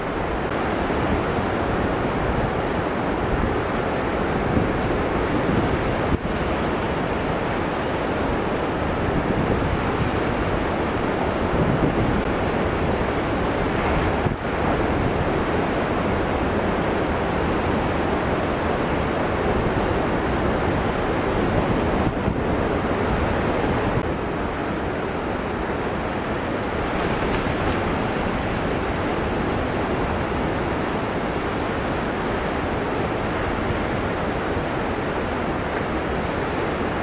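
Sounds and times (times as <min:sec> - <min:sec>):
ocean surf breaking: 0:00.0 - 0:37.0
wind noise on microphone: 0:00.0 - 0:37.0.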